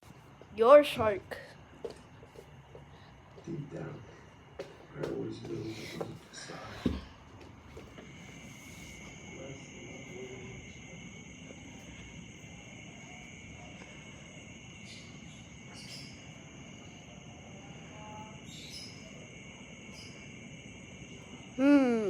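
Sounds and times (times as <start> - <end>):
insects chorus: 0.1 - 22.0.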